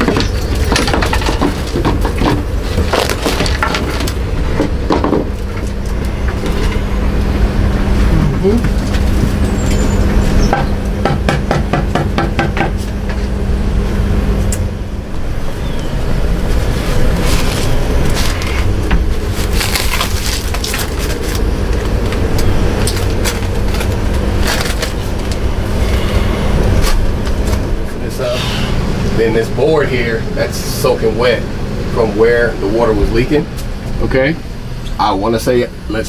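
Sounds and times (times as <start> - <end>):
insulation crackling and rustling: 0.0 - 11.0, 12.8 - 32.0
low machine hum: 0.0 - 36.0.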